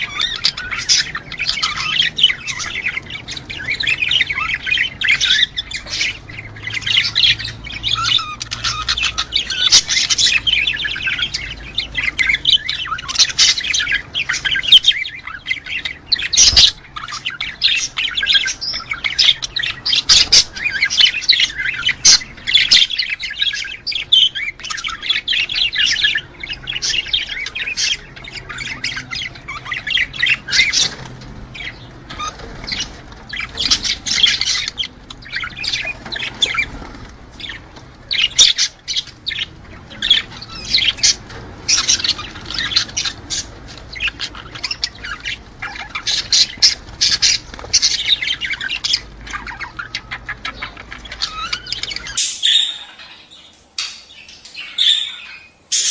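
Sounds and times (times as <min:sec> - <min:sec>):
budgerigars chattering and warbling: 0:00.0 - 0:55.9.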